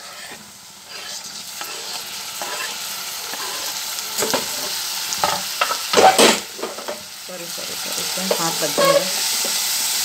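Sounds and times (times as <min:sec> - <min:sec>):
hot oil sizzling in a pot: 0:00.0 - 0:10.0.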